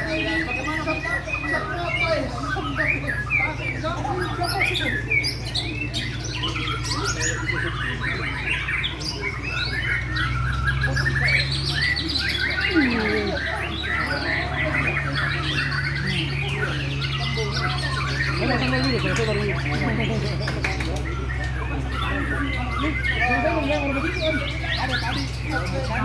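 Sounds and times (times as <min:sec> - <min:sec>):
birds singing in chorus: 0:00.0 - 0:26.0.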